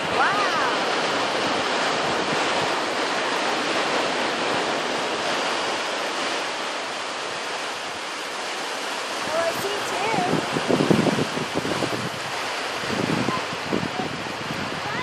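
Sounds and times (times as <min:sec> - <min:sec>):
sea waves rushing: 0:00.0 - 0:15.0
wind on microphone: 0:00.0 - 0:15.0.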